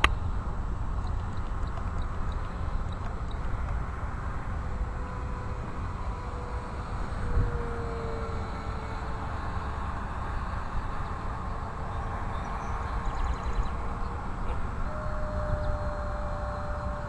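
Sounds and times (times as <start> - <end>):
distant model plane motor whine: 0.0 - 17.0
wind rumbling on microphone: 0.0 - 17.0.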